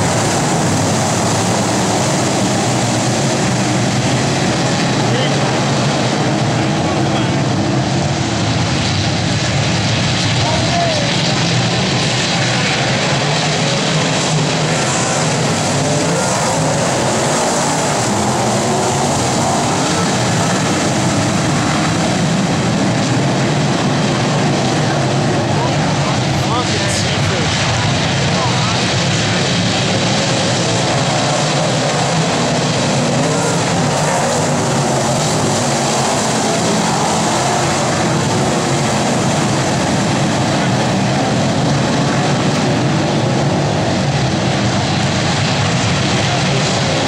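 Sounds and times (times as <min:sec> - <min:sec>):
race car engines droning: 0:00.0 - 0:47.0.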